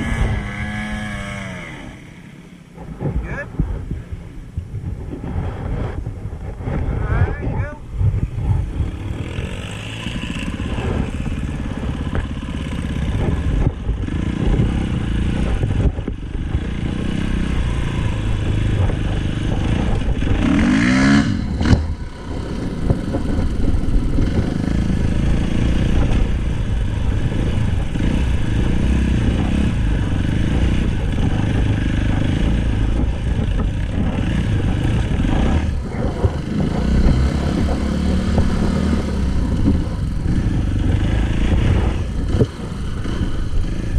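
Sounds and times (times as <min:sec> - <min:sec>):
dirt bike engine revving: 0:00.0 - 0:03.4, 0:08.5 - 0:43.9.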